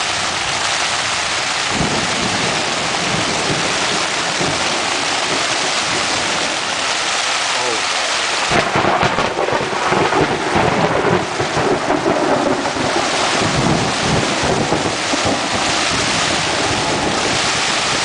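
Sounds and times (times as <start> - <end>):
heavy rain pounding on a tent: 0.0 - 18.0.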